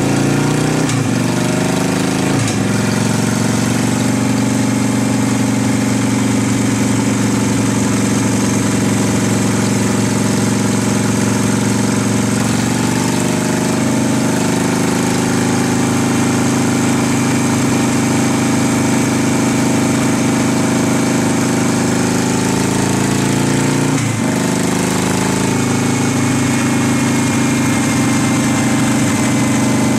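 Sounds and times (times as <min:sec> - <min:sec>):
motorcycle engine under load: 0:00.0 - 0:29.9.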